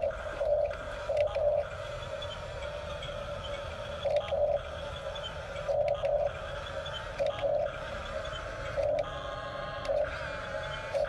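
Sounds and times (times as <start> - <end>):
toy bulldozer motors whining: 0.0 - 11.0.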